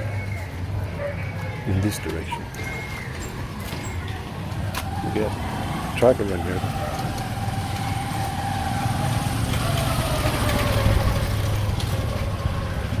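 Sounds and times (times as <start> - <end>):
vehicle engine humming with whine: 0.0 - 13.0.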